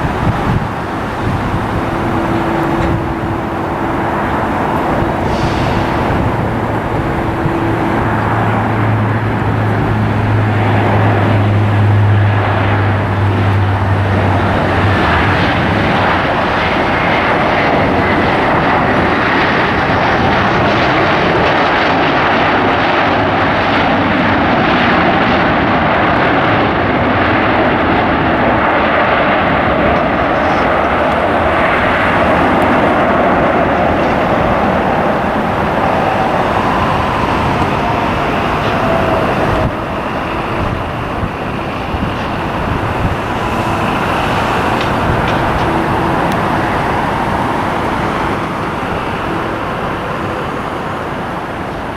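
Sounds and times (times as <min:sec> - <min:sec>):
aircraft engines running: 0:00.0 - 0:51.9
low hum: 0:00.0 - 0:51.9.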